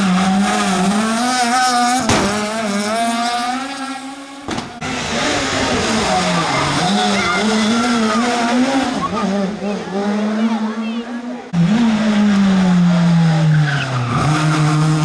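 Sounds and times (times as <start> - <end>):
rally car engine at high revs: 0.0 - 15.0.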